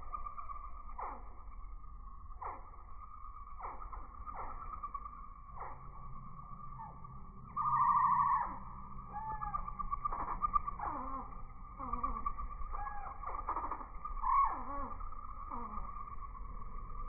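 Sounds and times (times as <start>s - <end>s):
pulsing hum: 0.0s - 17.0s
slowed bird calls: 0.0s - 17.0s.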